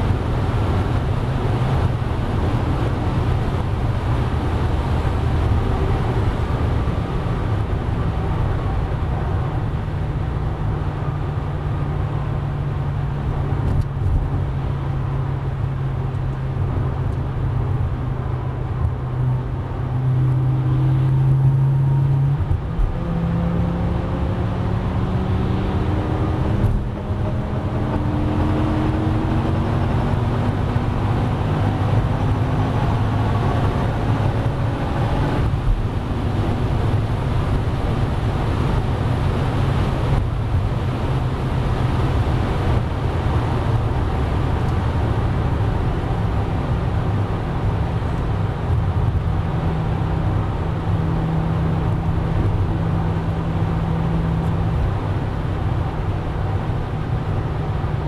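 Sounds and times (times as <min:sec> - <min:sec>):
car engine accelerating: 0:00.0 - 0:58.0
wind and tyre drone: 0:00.0 - 0:58.0.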